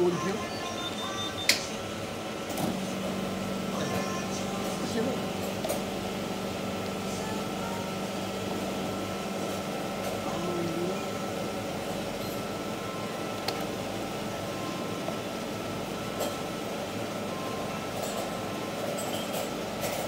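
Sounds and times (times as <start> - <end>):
ice cream machine humming: 0.0 - 20.0.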